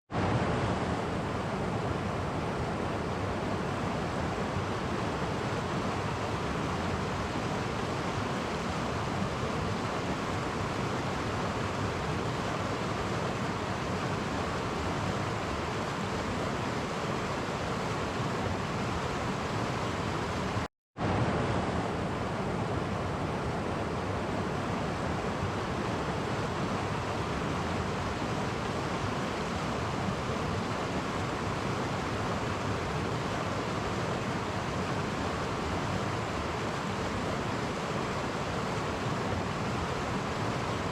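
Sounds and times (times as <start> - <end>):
stream flowing over cascades: 0.1 - 40.9.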